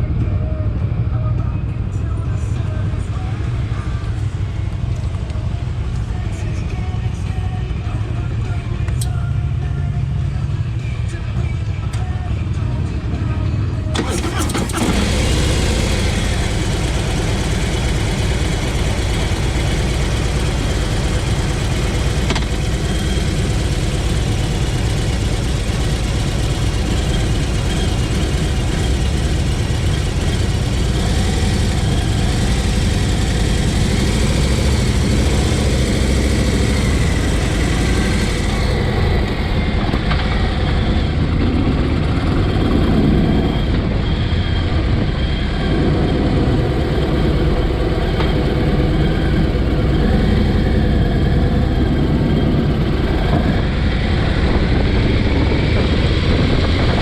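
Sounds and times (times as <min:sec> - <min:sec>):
motorcycle engine running: 0:02.5 - 0:10.8, 0:13.9 - 0:57.0.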